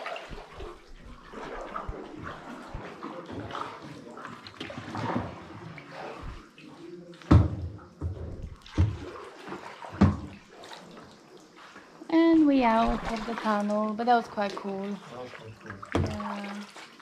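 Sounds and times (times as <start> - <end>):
kayak paddles splashing water: 0.0 - 17.0.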